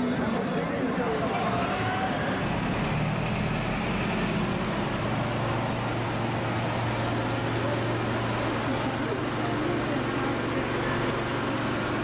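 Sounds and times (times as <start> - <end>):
street traffic noise: 0.0 - 12.0
truck engine droning: 0.7 - 12.0.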